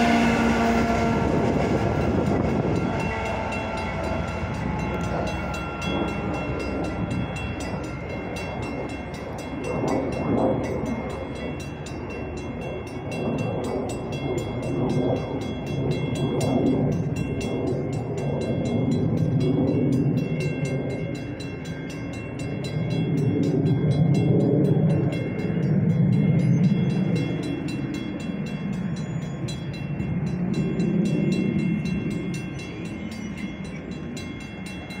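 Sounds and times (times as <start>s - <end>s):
railroad crossing bell ringing: 0.0s - 35.0s
train rumbling: 0.0s - 35.0s.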